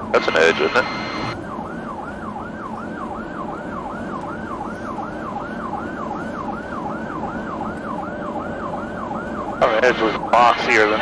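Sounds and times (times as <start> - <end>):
police siren yelping: 0.0 - 11.0.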